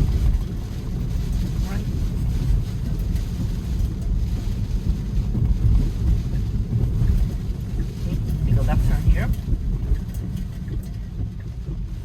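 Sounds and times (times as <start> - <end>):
rain: 0.0 - 12.0
tyre noise on wet road: 0.0 - 12.0.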